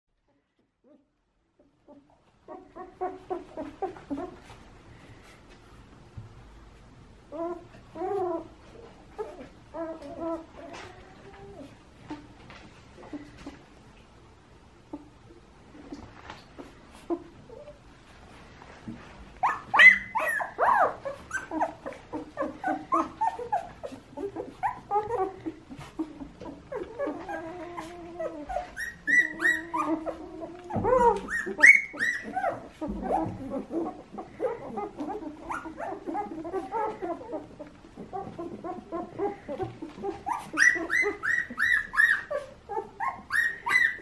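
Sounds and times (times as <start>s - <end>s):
puppies whimpering and squeaking: 0.4s - 5.5s, 7.3s - 12.4s, 14.8s - 44.0s.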